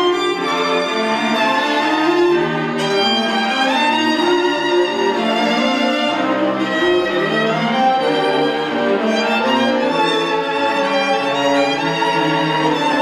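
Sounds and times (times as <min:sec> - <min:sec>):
bowed violin lines: 0:00.0 - 0:13.0
low cello notes: 0:00.0 - 0:13.0.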